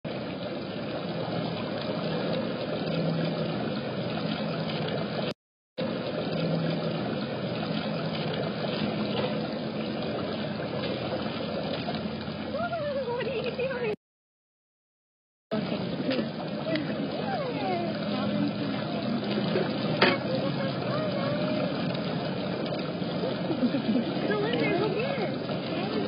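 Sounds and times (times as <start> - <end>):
waterfall splashing into pond: 0.1 - 13.9, 15.5 - 26.0.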